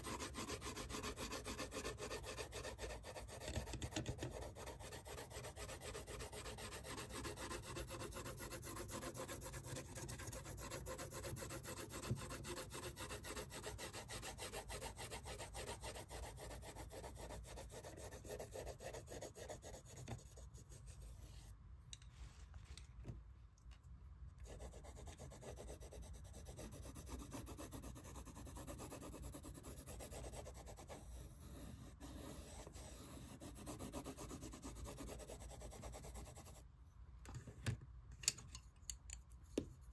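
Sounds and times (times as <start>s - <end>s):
pencil shading on paper: 0.0s - 21.5s, 24.4s - 36.6s.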